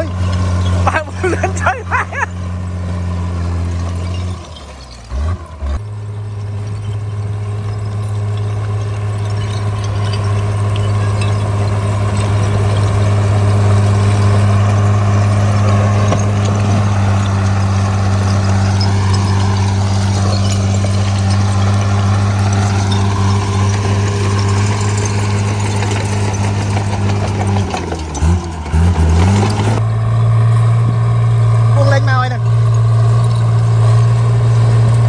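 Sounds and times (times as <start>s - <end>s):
bulldozer diesel engine humming: 0.0s - 35.0s
rough rattling noise: 0.0s - 35.0s.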